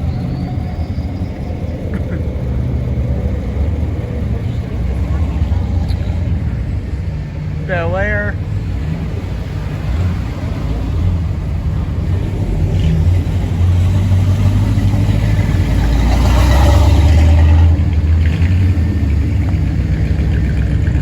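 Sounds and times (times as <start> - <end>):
car driving past with exhaust rumble: 0.0 - 7.6, 8.3 - 21.0.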